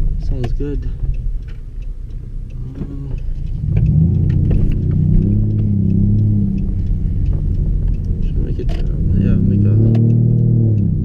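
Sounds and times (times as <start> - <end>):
car exhaust rumbling and droning: 0.0 - 11.0.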